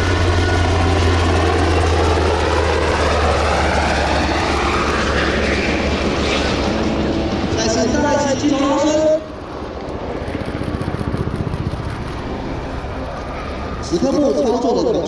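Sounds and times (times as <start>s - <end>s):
faint rising whine: 0.0s - 15.0s
helicopter rotor and turbine drone: 0.0s - 15.0s.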